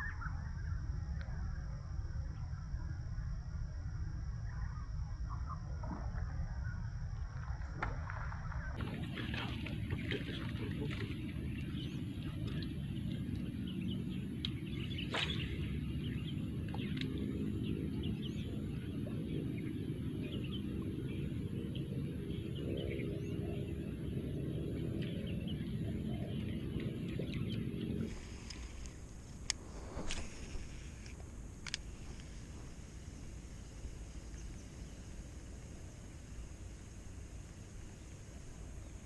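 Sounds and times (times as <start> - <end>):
wind rumble on microphone: 0.0 - 39.0.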